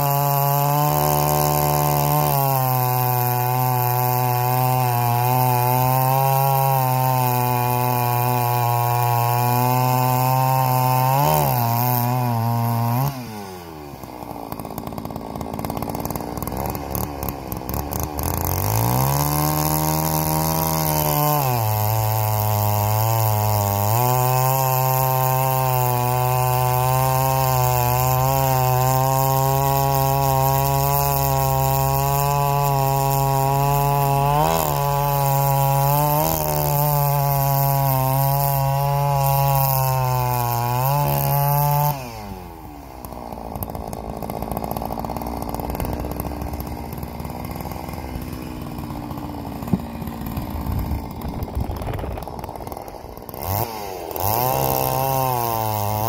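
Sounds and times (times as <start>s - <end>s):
chainsaw cutting logs: 0.0s - 56.0s.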